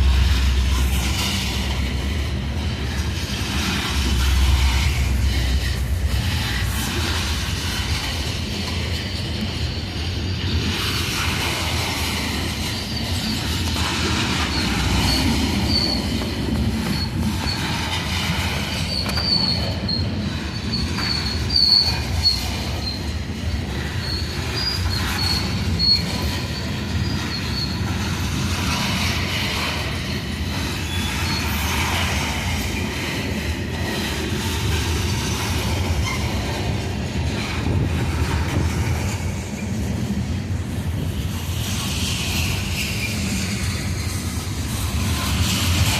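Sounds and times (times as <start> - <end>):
wheels squealing: 0.0 - 40.0, 41.1 - 45.9
train wheels rumbling on rail: 0.0 - 45.9.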